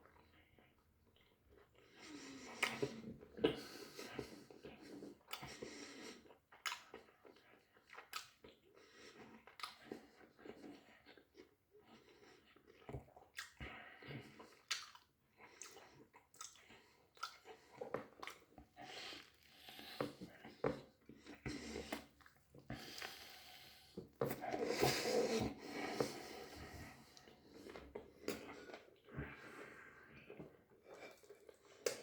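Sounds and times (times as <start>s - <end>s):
person chewing food: 0.1s - 32.0s.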